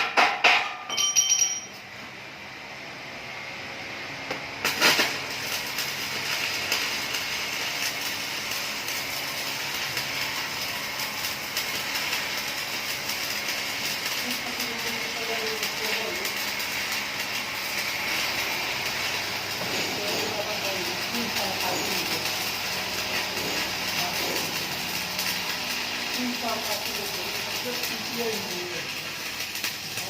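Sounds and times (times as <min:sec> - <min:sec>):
welding arc crackling hiss: 0:03.1 - 0:30.0.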